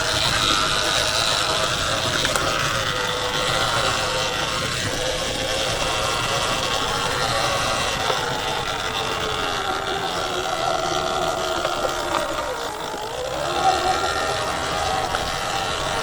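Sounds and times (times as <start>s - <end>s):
electric dirt bike motor whining: 0.0s - 16.0s.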